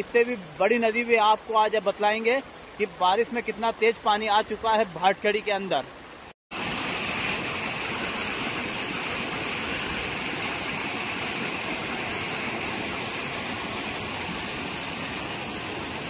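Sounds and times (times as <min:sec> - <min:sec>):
river floodwater rushing: 0:00.0 - 0:16.0.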